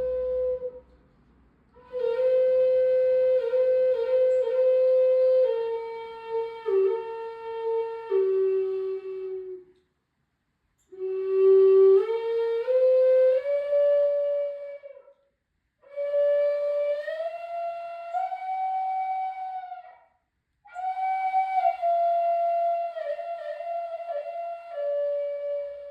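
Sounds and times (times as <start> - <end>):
flute-like wind instrument: 0.0 - 1.0, 1.7 - 9.8, 10.8 - 25.9.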